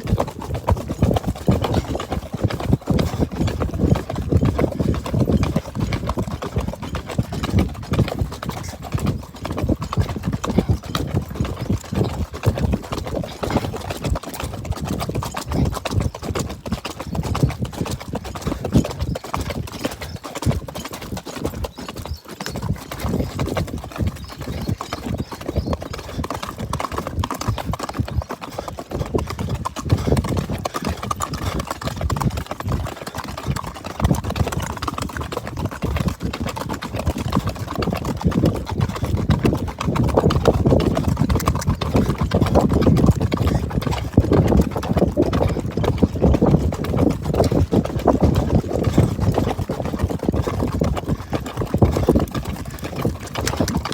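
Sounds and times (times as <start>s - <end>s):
horse hoofbeats: 0.0s - 53.9s.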